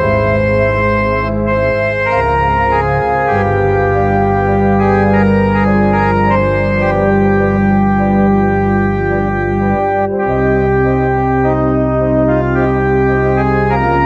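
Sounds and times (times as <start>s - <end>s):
organ playing sustained chords: 0.0s - 14.0s.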